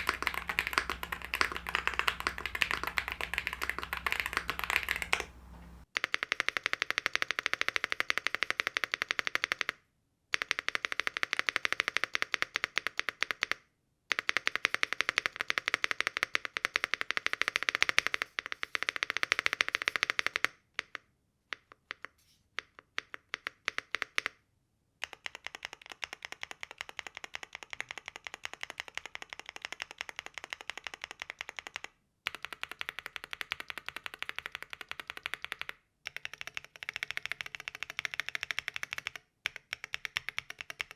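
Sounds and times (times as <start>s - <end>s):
mechanical keyboard clacks: 0.0s - 5.3s, 6.0s - 24.3s, 25.0s - 40.9s.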